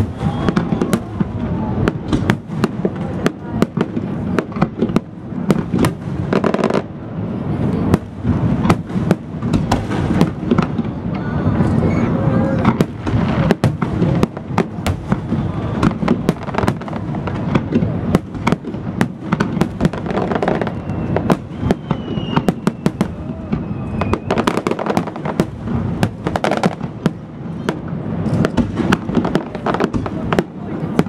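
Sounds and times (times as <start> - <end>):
fireworks bursting with sharp bangs: 0.0 - 31.0
low rumble of explosions: 0.0 - 31.0.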